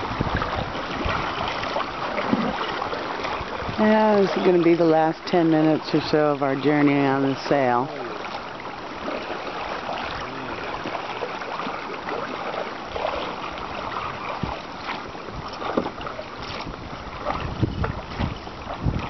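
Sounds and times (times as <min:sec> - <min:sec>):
small knocks and splashes: 0:00.0 - 0:04.5, 0:08.2 - 0:19.0
water lapping along canoe hull: 0:00.0 - 0:19.0
wind buffeting microphone: 0:00.0 - 0:19.0.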